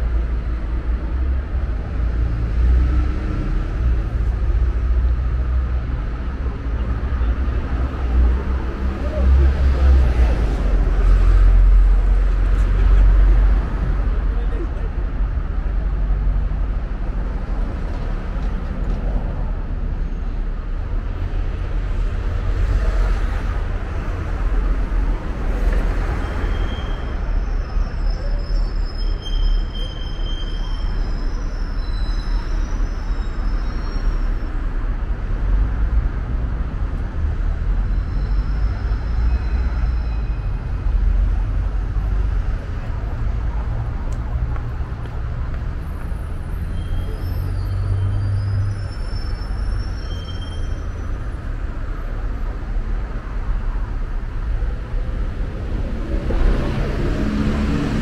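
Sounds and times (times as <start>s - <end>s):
bus and car engines rumbling: 0.0s - 58.0s.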